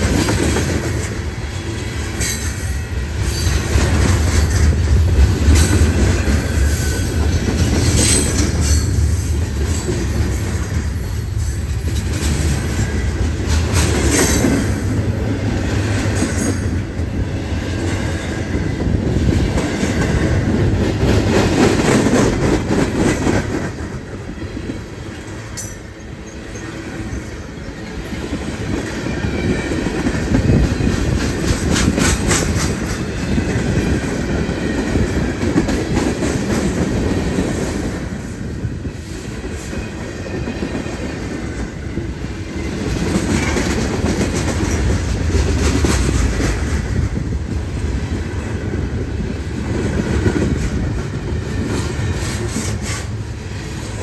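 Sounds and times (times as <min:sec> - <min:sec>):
train rolling past: 0:00.0 - 0:54.0.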